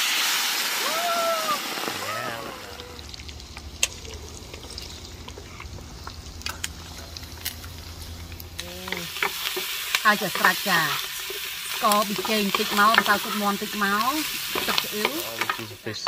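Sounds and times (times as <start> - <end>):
food hissing in hot oil: 0.0 - 16.0
frying sizzle with pops: 0.0 - 16.0.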